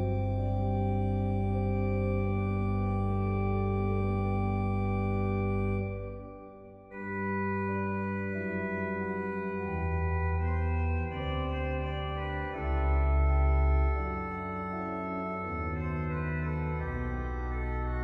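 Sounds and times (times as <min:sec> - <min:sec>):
organ chords: 0:00.0 - 0:18.0
organ pedal bass line: 0:00.0 - 0:18.0.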